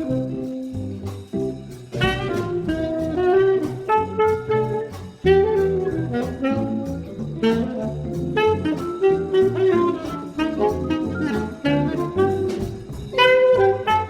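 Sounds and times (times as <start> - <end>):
bass: 0.0 - 14.0
drums with cymbal strokes: 0.0 - 14.0
saxophone playing quick runs: 2.0 - 14.0.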